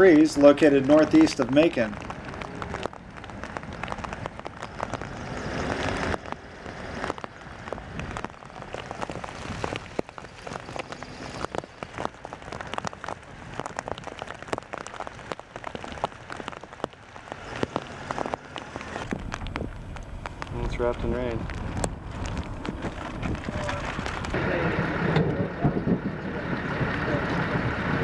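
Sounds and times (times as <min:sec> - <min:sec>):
raindrops ticking: 0:00.0 - 0:24.4.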